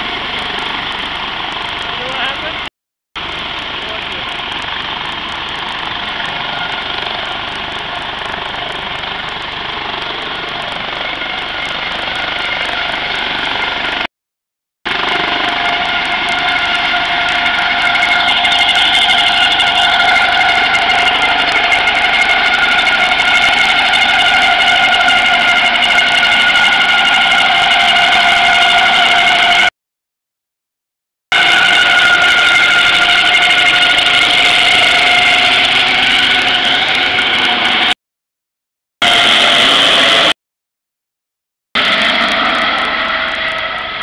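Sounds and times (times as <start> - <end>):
helicopter engine and rotors: 0.0 - 14.1, 14.9 - 29.7, 31.3 - 38.0, 39.0 - 40.3, 41.8 - 44.0.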